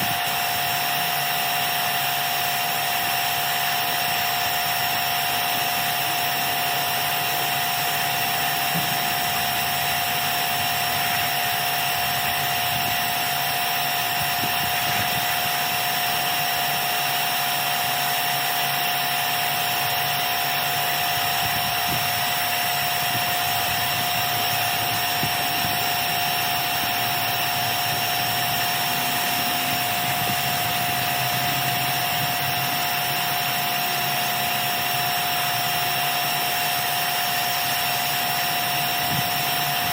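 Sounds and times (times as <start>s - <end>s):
motor whine: 0.0s - 39.9s.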